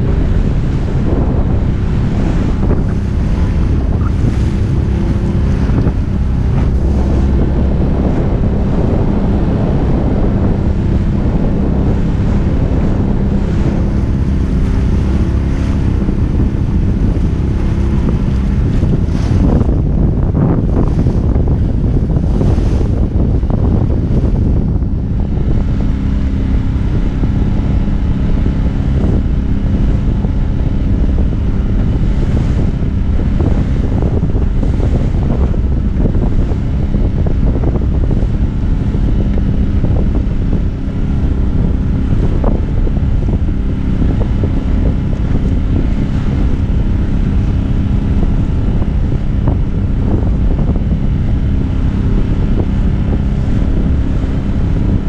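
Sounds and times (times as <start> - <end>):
boat motor droning: 0.0 - 55.0
waves splashing against hull: 0.0 - 55.0
wind buffeting microphone: 0.0 - 55.0.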